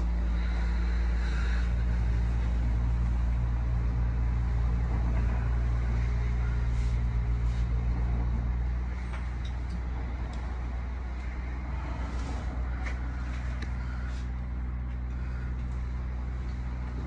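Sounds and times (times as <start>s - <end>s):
tram running gear drone: 0.0s - 17.0s.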